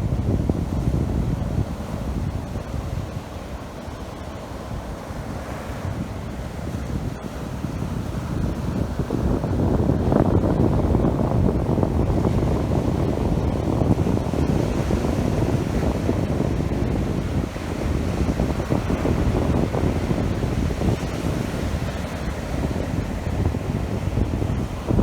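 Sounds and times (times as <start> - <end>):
heavy sea waves: 0.0 - 25.0
wind buffeting microphone: 0.0 - 25.0.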